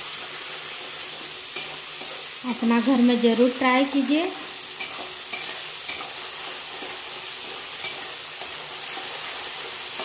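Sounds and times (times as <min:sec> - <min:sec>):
paste sizzling in hot oil: 0:00.0 - 0:10.0
metal spatula stirring: 0:00.2 - 0:02.9, 0:04.7 - 0:10.0.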